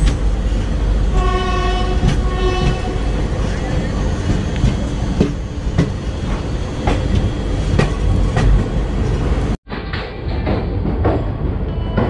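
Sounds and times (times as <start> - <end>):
train coaches rumbling: 0.0 - 12.0
wheels clacking over rail joints: 0.0 - 12.0.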